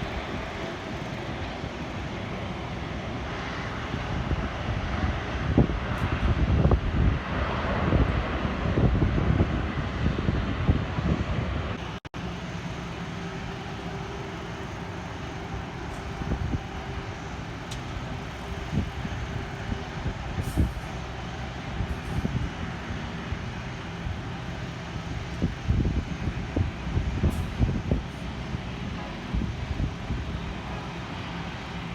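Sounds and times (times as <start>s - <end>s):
jet engine noise: 0.0s - 31.9s
wind buffeting microphone: 0.0s - 31.9s.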